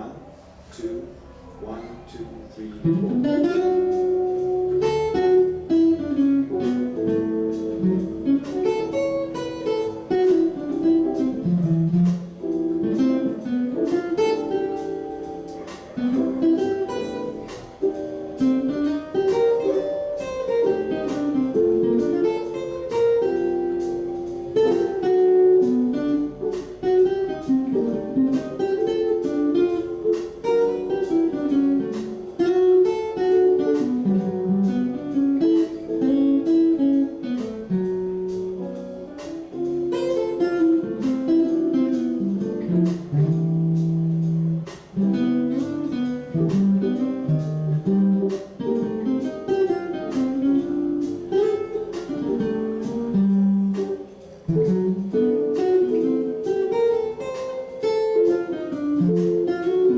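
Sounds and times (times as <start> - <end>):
jazz guitar plucked notes: 0.0 - 59.9.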